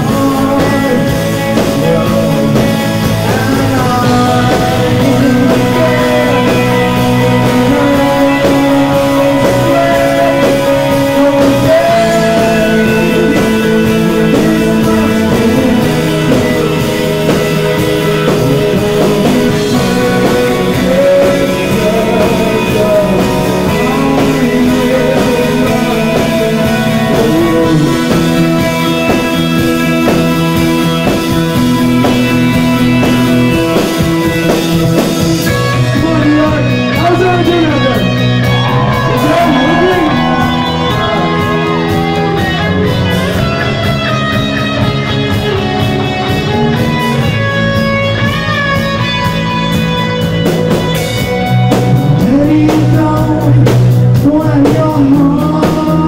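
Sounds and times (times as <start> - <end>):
person singing: 0.0 - 45.2, 50.7 - 56.0
drums: 0.0 - 56.0
electric guitars: 0.0 - 56.0.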